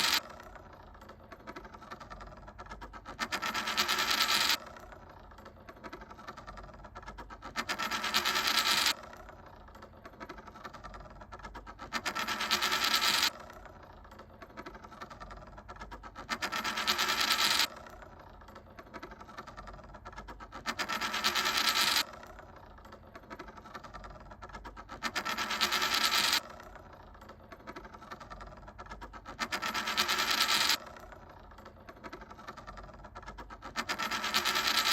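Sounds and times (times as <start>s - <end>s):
coin spinning and rattling: 0.0s - 34.9s.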